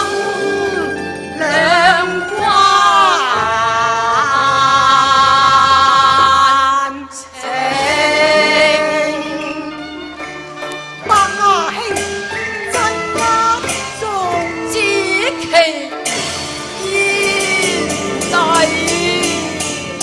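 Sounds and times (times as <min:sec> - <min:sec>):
accompanying ensemble: 0:00.0 - 0:06.6, 0:07.2 - 0:20.0
opera singing with vibrato: 0:00.0 - 0:20.0.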